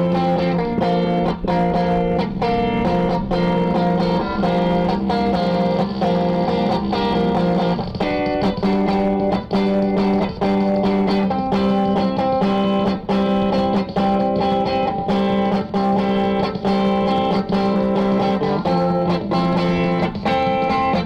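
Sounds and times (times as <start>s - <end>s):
electric guitar chords: 0.0s - 21.0s.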